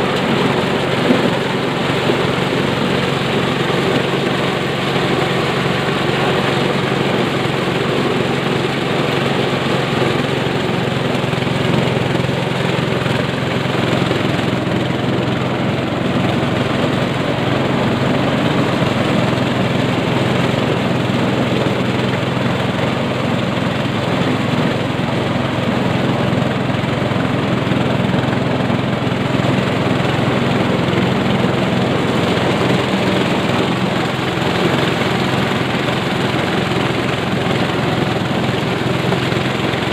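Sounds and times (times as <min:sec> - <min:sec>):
corn sheller machine drone: 0:00.0 - 0:39.9.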